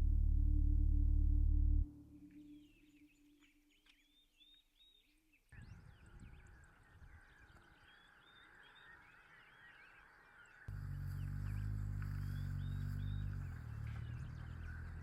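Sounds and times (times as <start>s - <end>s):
faint birdsong: 0.1s - 15.0s.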